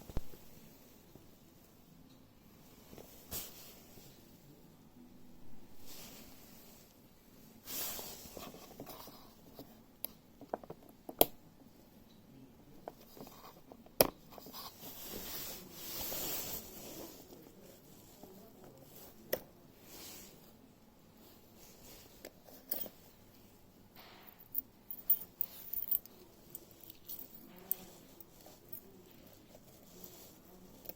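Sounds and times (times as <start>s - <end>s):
soft rustling and scraping: 2.5s - 4.6s, 5.7s - 11.0s, 12.7s - 30.9s.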